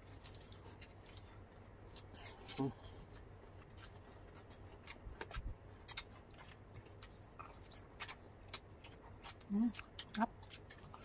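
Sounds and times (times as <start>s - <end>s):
chewing with crisp clicks: 0.0s - 11.0s.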